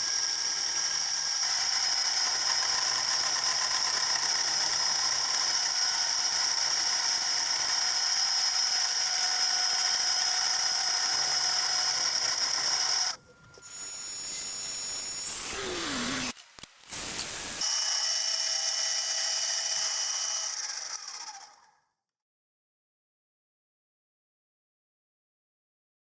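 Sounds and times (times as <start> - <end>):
machine tool high whine: 0.0 - 21.7
quieter machining sound: 0.1 - 21.6.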